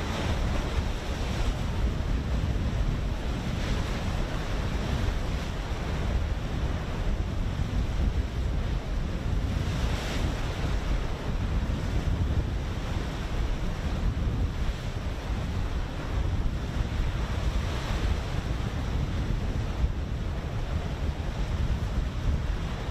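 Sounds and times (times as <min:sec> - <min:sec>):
open sea wash: 0:00.0 - 0:22.9
wind buffeting microphone: 0:00.0 - 0:22.9.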